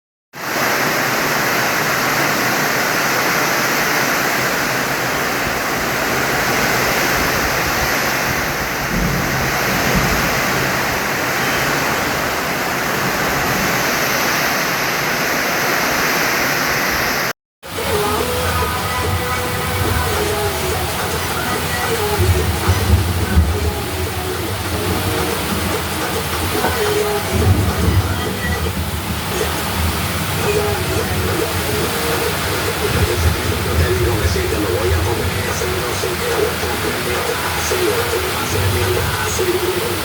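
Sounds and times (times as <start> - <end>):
heavy rain pouring: 0.4 - 40.0.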